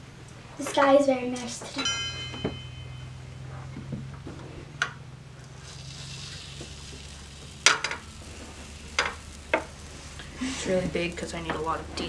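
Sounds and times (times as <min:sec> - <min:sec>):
batter sizzling on griddle: 0:01.8 - 0:12.0.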